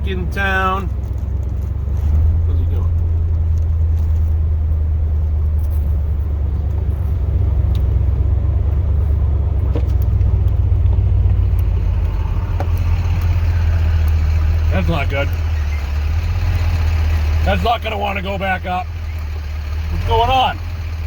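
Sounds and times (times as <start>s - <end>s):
road noise: 0.0s - 21.0s
truck engine rumbling: 0.0s - 21.0s.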